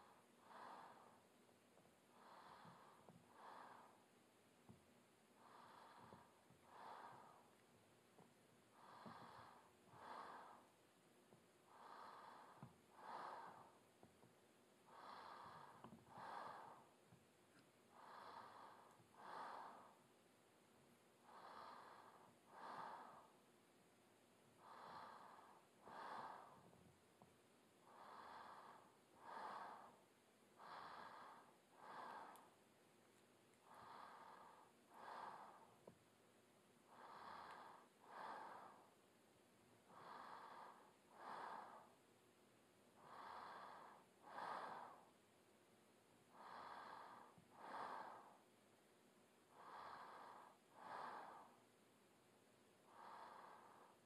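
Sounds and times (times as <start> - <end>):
woman breathing slowly: 0.0 - 54.0.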